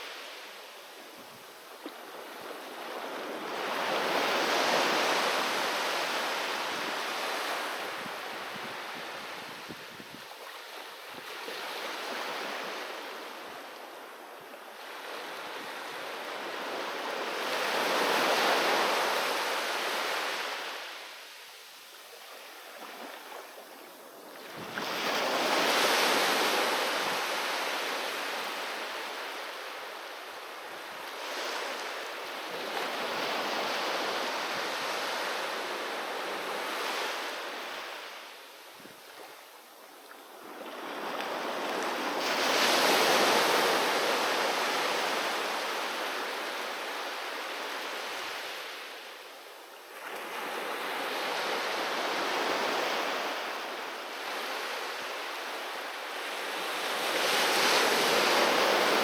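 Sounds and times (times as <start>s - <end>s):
sea waves breaking on shore: 0.0s - 49.3s, 49.9s - 59.0s.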